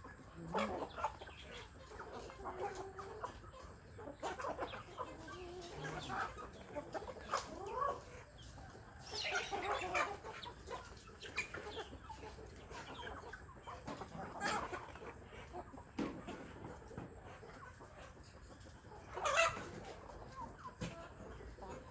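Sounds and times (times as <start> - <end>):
chickens clucking: 0.0 - 21.9.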